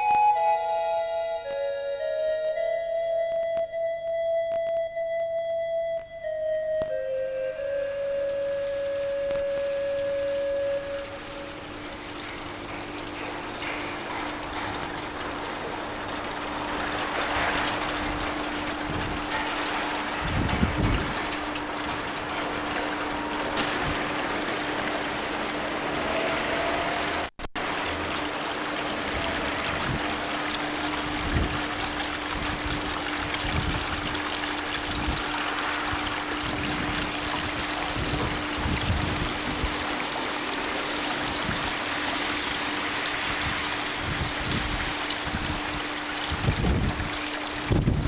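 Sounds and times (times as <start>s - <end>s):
running water rushing: 6.2s - 48.0s.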